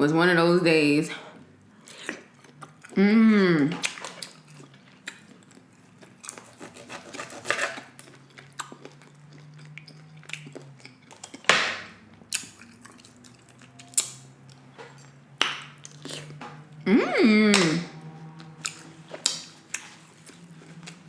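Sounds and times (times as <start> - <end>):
chewing food: 1.6 - 3.0, 3.7 - 16.9, 17.9 - 21.0.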